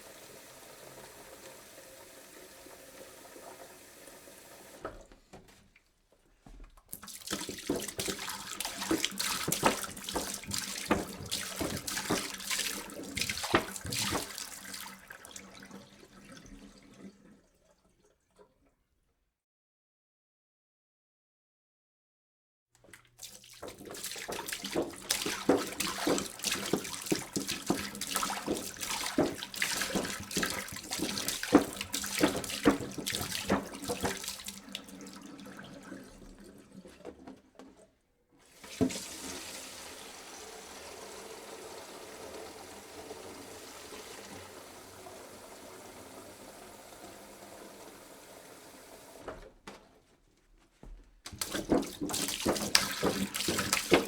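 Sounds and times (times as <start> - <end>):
water pouring into a jug: 0.0 - 4.9, 6.9 - 18.6, 22.9 - 37.8, 38.4 - 49.2, 51.4 - 54.0.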